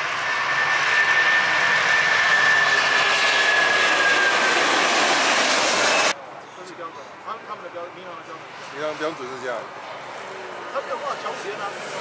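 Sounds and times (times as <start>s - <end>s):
jet airliner taking off: 0.0s - 6.2s, 8.3s - 12.0s.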